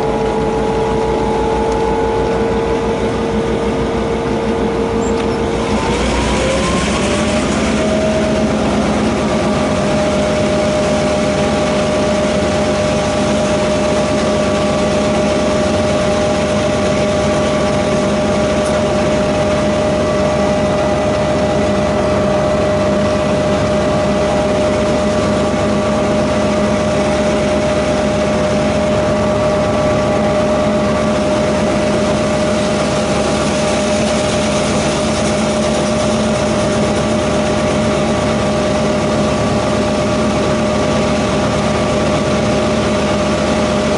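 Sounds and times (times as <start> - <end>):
diesel locomotive drone: 0.0 - 43.9.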